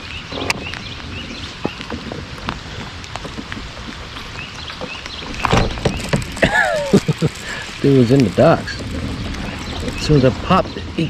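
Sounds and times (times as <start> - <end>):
rain falling: 0.0 - 11.0
raindrops tapping: 0.0 - 11.0.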